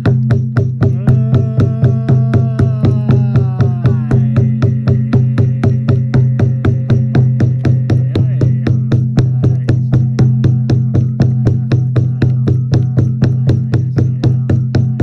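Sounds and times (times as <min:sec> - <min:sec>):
fast percussive beat: 0:00.0 - 0:15.0.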